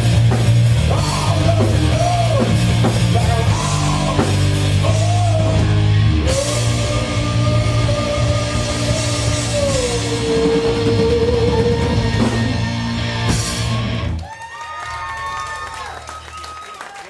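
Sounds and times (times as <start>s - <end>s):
live rock band playing: 0.0s - 14.2s.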